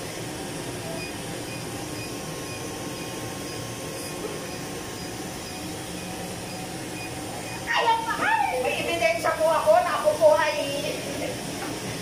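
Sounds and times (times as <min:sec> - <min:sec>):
cooling fan rushing: 0:00.0 - 0:12.0.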